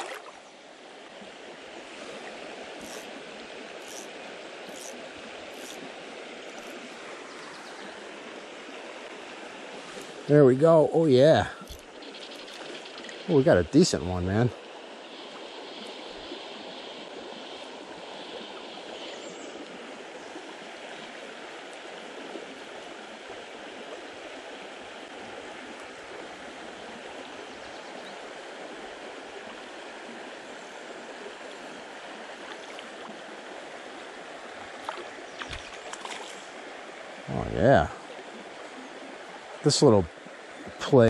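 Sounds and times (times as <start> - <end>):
creek water running over bed: 0.0 - 41.0.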